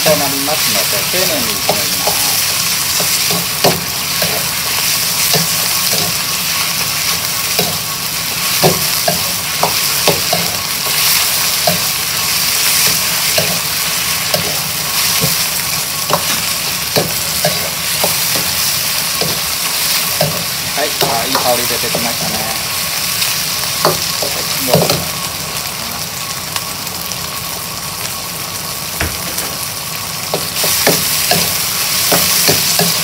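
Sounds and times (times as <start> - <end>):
chicken sizzling in a wok: 0.0 - 33.0.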